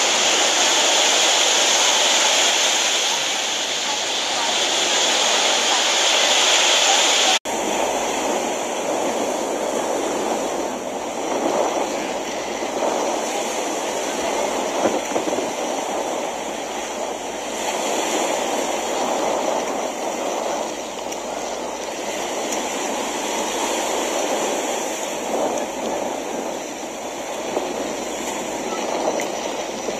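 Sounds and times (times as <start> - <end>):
small waves washing onto beach: 0.0 - 29.9.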